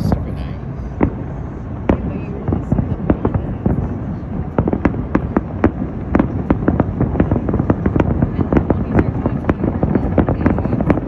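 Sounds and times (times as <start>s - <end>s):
fireworks bangs and crackles: 0.0s - 11.0s
low rumble: 0.0s - 11.0s.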